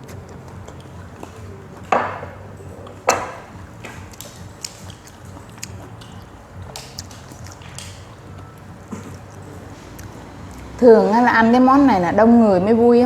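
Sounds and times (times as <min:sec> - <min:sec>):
chewing clicks: 0:00.0 - 0:10.8.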